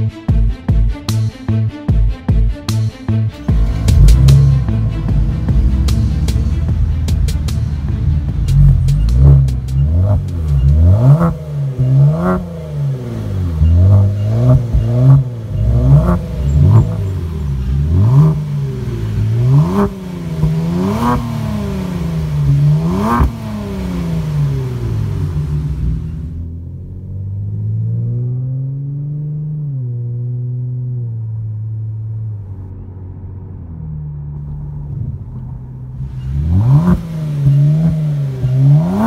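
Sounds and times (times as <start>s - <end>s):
car engine idling: 3.4s - 39.0s
car engine revving: 3.4s - 39.0s.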